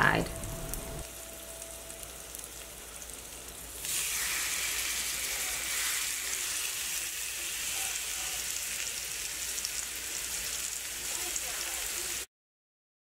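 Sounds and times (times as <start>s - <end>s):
chicken sizzling in a frying pan: 0.0s - 12.3s.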